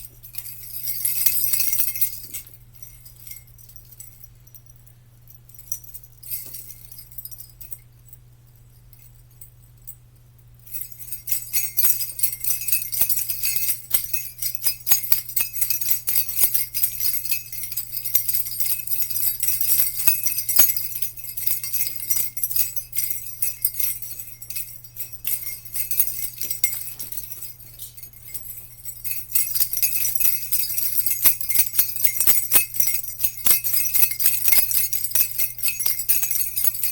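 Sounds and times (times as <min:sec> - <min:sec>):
jingle bells shaken: 0:00.0 - 0:10.0, 0:10.6 - 0:36.9.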